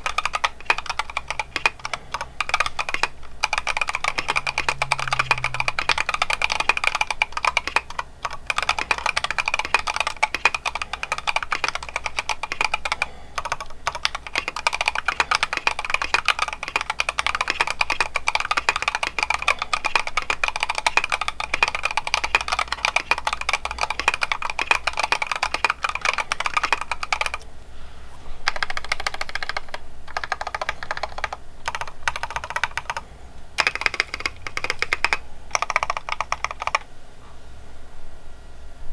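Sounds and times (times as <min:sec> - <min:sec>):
fast mechanical keyboard typing: 0:00.0 - 0:27.5, 0:28.4 - 0:33.0, 0:33.6 - 0:36.9.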